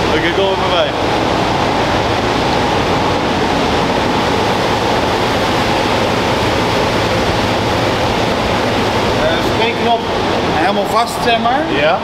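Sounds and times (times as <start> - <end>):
cooling blower air rush: 0.0 - 12.0.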